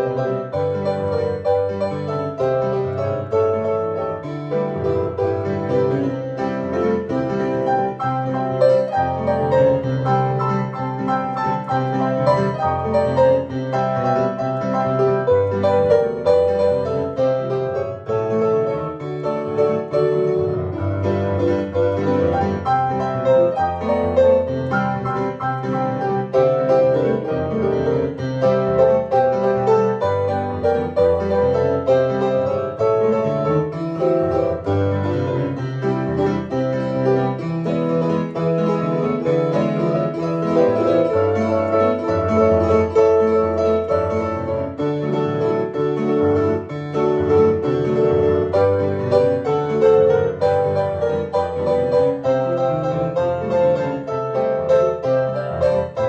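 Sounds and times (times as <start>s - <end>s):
digital piano playing: 0.0s - 56.0s.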